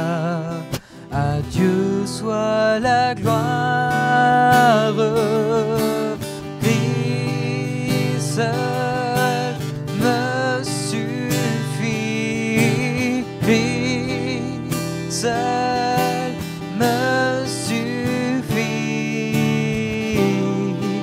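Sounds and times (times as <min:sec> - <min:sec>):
acoustic guitar strumming: 0:00.0 - 0:21.0
man singing: 0:00.0 - 0:21.0.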